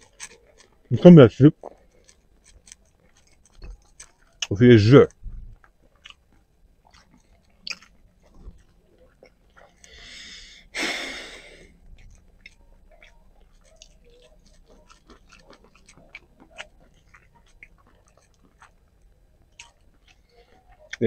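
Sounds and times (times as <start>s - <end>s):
faint chewing mouth clicks: 0.0s - 0.9s, 1.5s - 10.3s, 11.5s - 21.0s.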